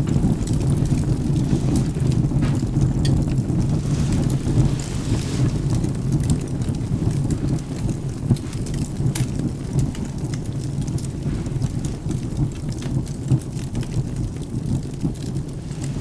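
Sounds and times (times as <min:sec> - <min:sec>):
rain: 0:00.0 - 0:16.0
wood fire crackling: 0:00.0 - 0:16.0.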